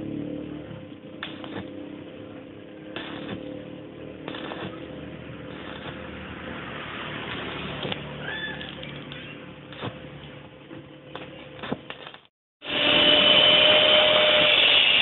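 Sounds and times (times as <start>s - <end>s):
welding arc crackling: 0.6s - 15.0s.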